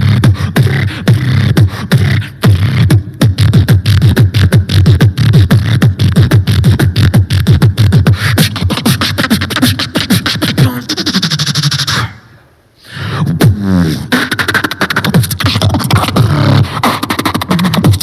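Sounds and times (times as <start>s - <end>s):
person beatboxing through microphone: 0.0s - 18.0s.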